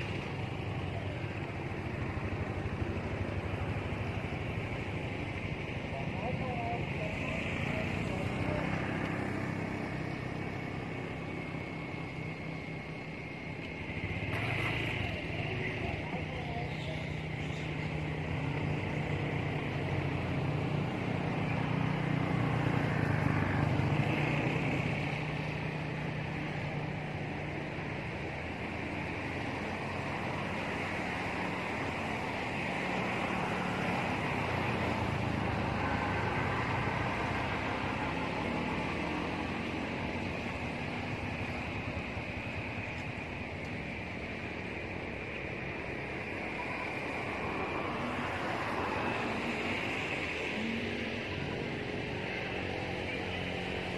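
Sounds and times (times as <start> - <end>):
outdoor background noise: 0.0 - 53.9.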